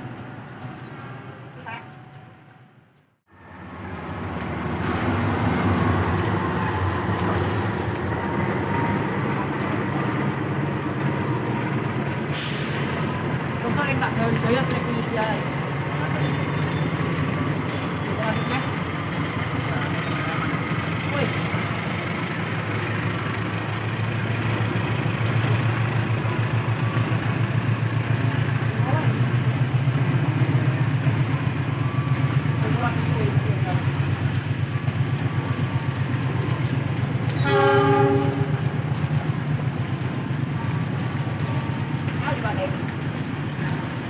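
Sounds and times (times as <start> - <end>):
diesel train engine drone: 0.0 - 44.0
heavy rain hiss: 3.3 - 44.0.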